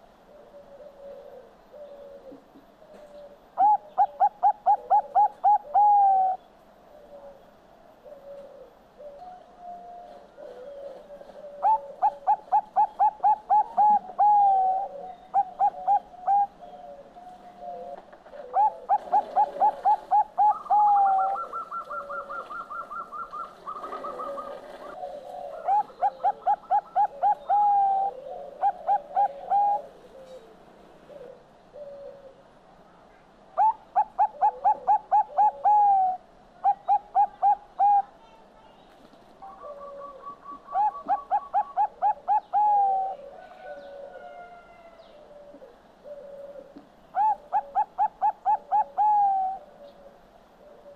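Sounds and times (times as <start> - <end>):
dove cooing: 0.0 - 32.5, 33.6 - 38.4, 39.4 - 50.9.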